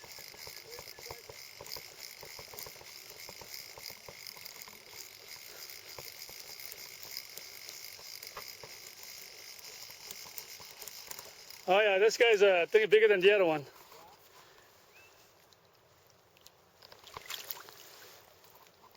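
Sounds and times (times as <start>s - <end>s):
small irregular clicks: 0.0s - 12.4s, 15.4s - 18.9s.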